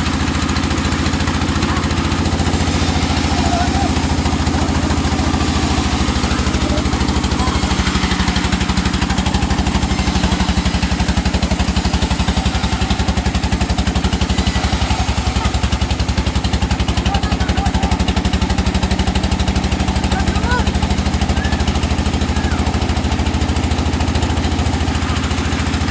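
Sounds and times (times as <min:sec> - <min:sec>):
engine running steadily: 0:00.0 - 0:25.9.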